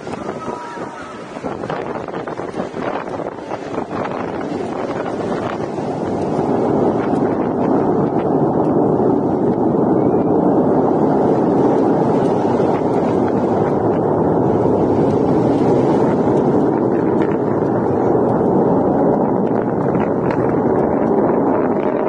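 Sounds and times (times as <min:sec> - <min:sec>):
rocket engine rumble: 0:00.0 - 0:22.0.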